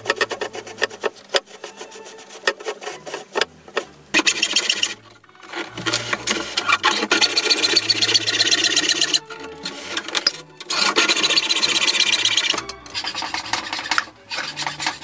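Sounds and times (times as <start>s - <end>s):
hacksaw cutting plastic pipe: 0.0s - 15.0s.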